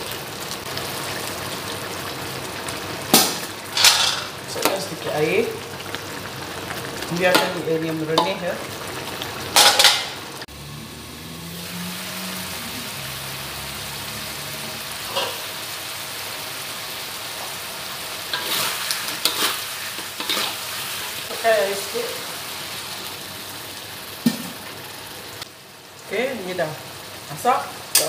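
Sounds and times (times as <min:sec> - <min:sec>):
chicken sizzling in a wok: 0:00.0 - 0:28.0.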